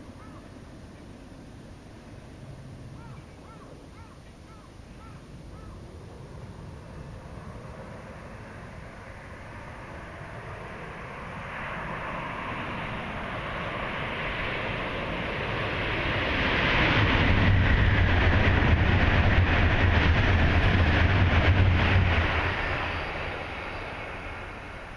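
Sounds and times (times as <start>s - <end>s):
train passing at speed: 0.0s - 24.9s.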